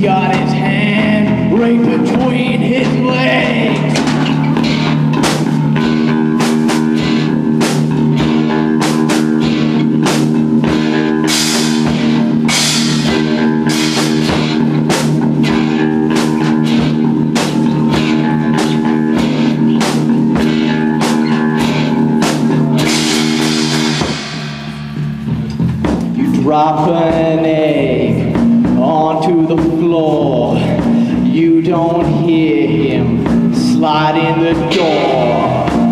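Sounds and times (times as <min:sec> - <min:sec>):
held guitar chords: 0:00.0 - 0:35.9
steady drum beat: 0:00.0 - 0:35.9.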